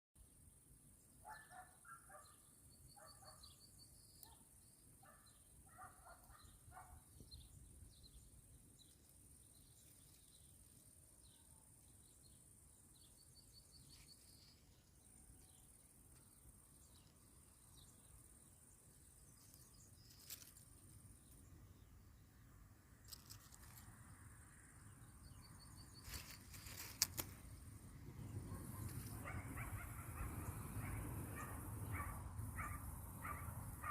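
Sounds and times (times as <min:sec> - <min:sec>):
small birds chirping: 0:01.1 - 0:22.0, 0:23.0 - 0:23.9, 0:24.9 - 0:33.9.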